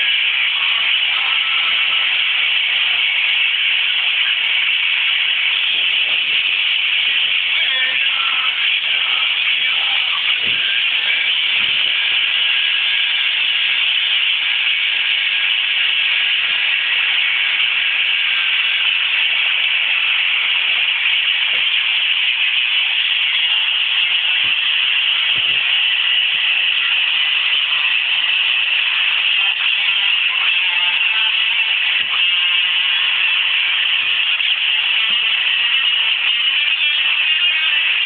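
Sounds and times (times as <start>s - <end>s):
loud steady hiss: 0.0s - 38.0s.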